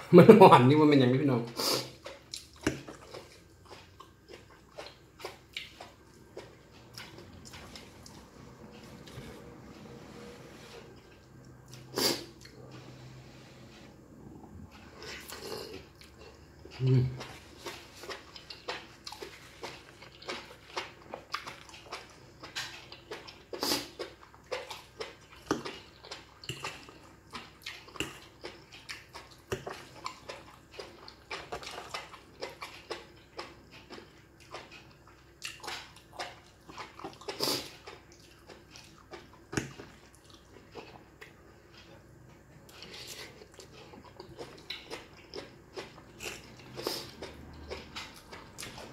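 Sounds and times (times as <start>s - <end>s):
person chewing and mouth smacking: 1.9s - 9.6s, 14.7s - 48.9s.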